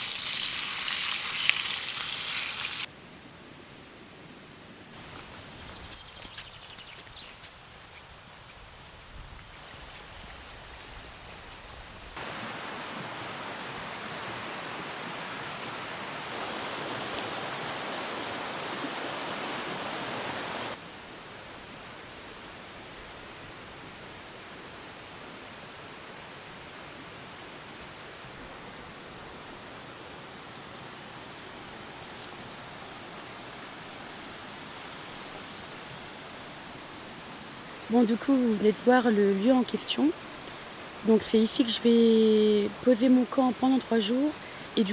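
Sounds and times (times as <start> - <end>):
rushing outdoor ambience: 0.0 - 44.9.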